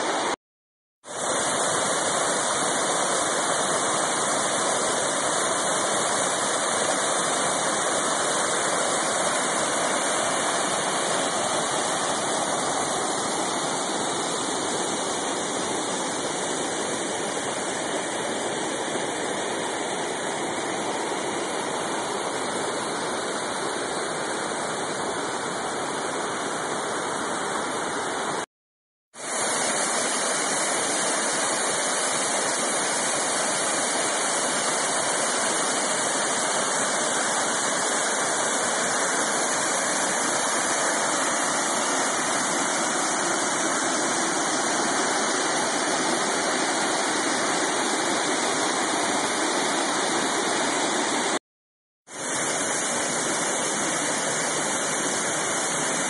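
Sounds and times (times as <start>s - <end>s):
waterfall rushing: 0.0s - 0.4s, 1.1s - 28.5s, 29.2s - 51.4s, 52.1s - 56.0s.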